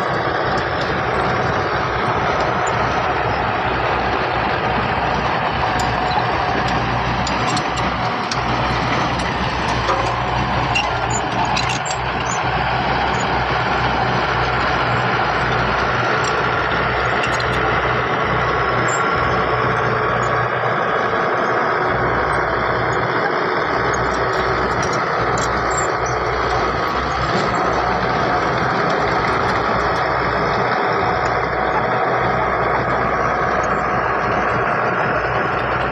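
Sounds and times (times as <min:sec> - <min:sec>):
heavy diesel machinery running: 0:00.0 - 0:35.9.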